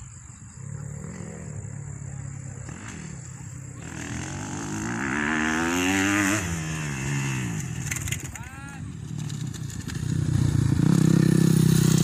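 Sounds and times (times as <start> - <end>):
dirt bike engine revving: 0.4 - 12.0.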